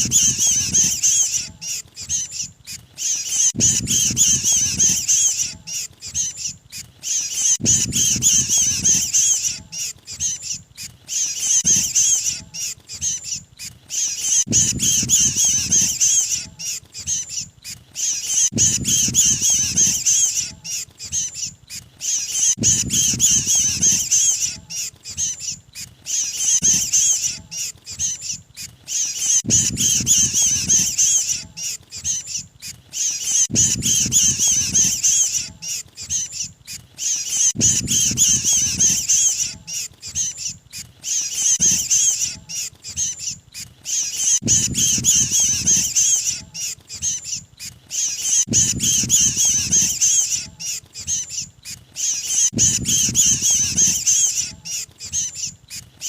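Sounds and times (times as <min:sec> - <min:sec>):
bird distress calls chattering: 0:00.0 - 0:56.0.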